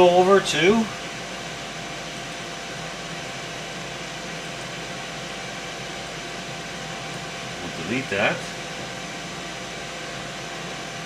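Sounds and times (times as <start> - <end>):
faint constant hum: 0.0 - 11.0
fan rushing hiss: 0.0 - 11.0.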